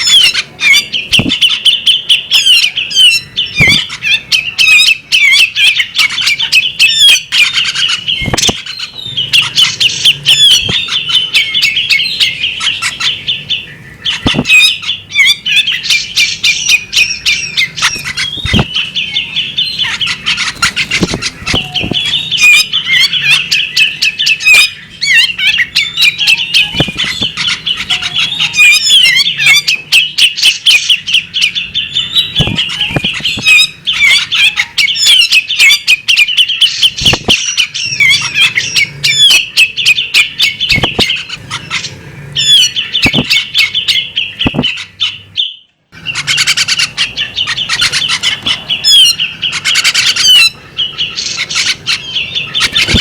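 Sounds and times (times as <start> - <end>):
magpie robin chattering call: 0.0 - 53.0.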